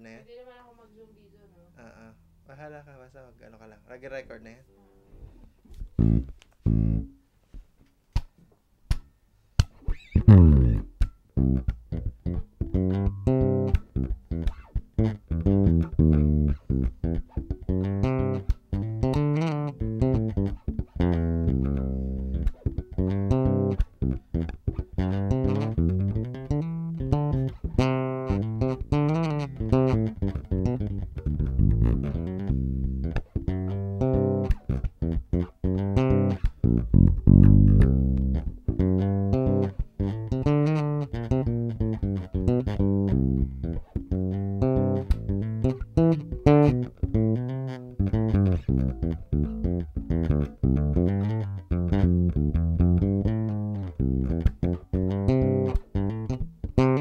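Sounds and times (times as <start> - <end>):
electric bass played fingerstyle: 5.1 - 57.0.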